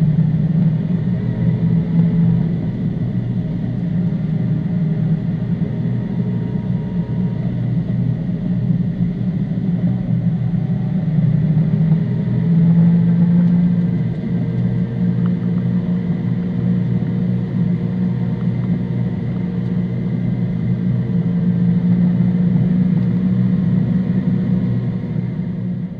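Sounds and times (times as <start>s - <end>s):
car engine droning in cabin: 0.0s - 25.9s.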